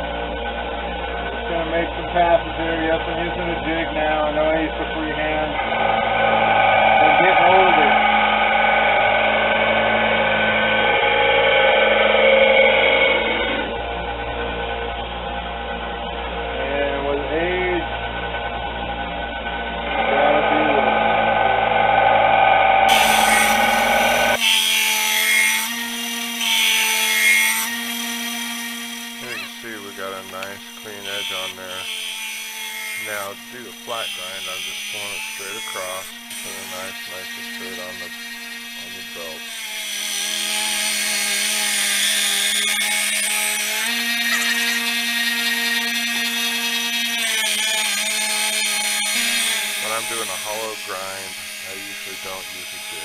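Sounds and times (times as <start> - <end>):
belt sander humming: 0.0 - 53.0.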